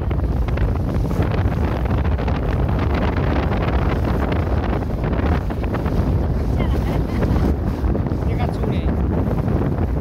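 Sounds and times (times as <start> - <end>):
water rushing along hull: 0.0 - 10.0
wind buffeting microphone: 0.0 - 10.0.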